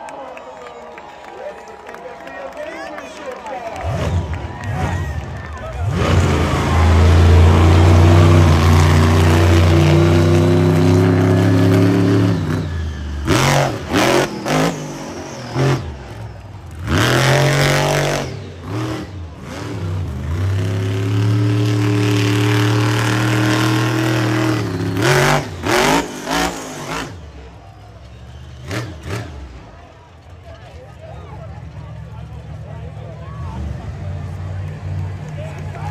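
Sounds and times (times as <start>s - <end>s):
truck engine revving: 3.7s - 30.5s, 31.4s - 35.9s.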